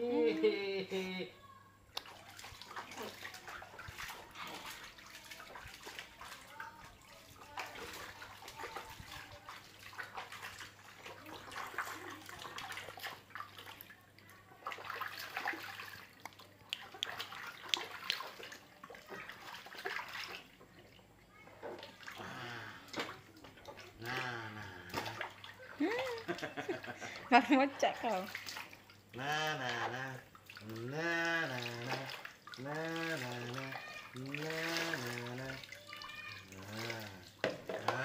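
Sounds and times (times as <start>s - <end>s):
water splashing in plastic basin: 1.9s - 38.0s.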